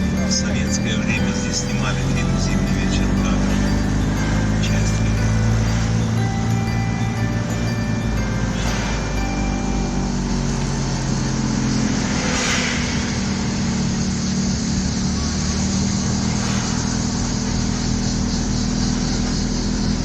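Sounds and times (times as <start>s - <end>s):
passing whoosh: 0.0s - 18.4s
road noise: 0.0s - 20.0s
vehicle engine hum: 0.0s - 20.0s.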